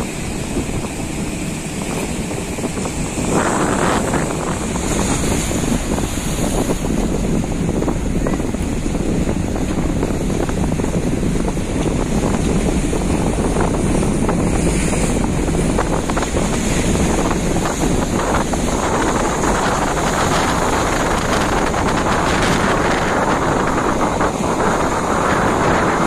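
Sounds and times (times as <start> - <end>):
boat motor running: 0.0 - 26.0
waves splashing: 0.0 - 26.0
wind buffeting microphone: 0.0 - 26.0.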